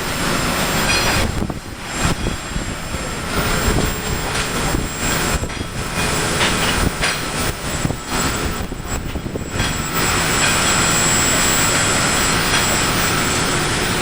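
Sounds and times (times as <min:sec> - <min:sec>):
factory machinery rushing noise: 0:00.0 - 0:14.0.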